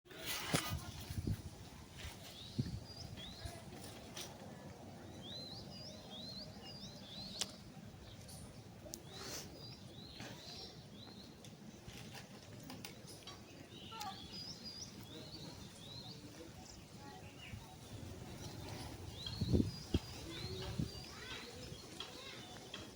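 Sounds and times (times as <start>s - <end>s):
birds chirping: 0.1s - 22.9s.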